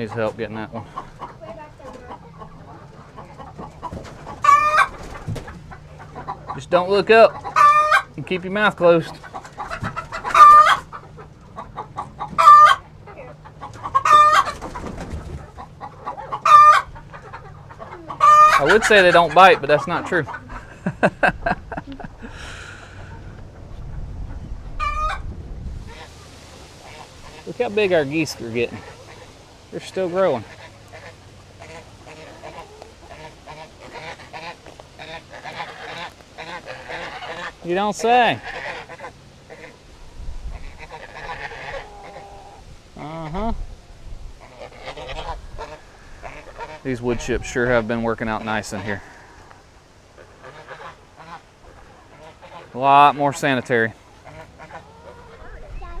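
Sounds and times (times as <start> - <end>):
geese honking: 0.0 - 56.0
poultry calling loudly: 0.0 - 56.0
soft clucking: 0.0 - 56.0.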